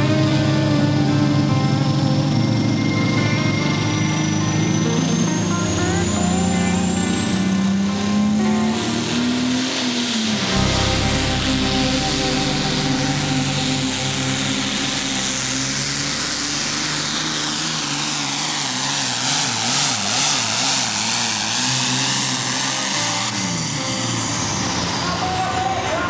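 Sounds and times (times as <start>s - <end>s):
high whine spooling down: 0.0s - 26.0s
tractor diesel engine at full throttle: 0.0s - 26.0s.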